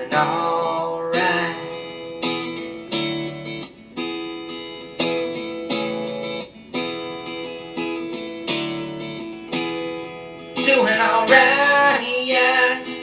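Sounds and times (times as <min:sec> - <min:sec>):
acoustic guitar chords strummed: 0:00.0 - 0:13.0.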